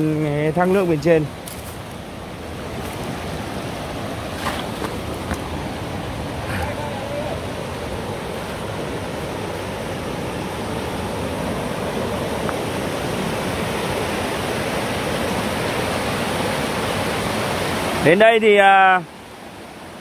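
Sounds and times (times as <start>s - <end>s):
stream rushing over boulders: 0.0s - 20.0s
waterfall: 0.0s - 20.0s.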